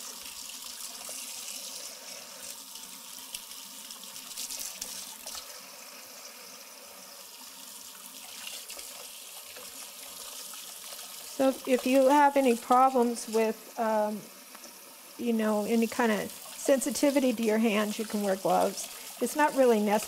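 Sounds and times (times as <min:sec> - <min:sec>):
faucet running into colander: 0:00.0 - 0:13.6, 0:14.3 - 0:20.0.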